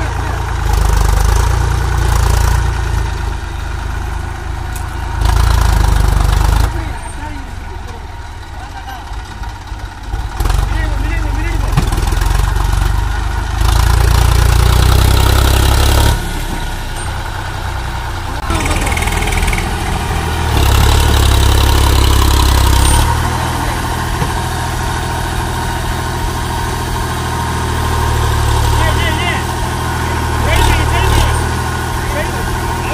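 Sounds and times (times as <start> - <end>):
tractor diesel engine revving: 0.0 - 32.9.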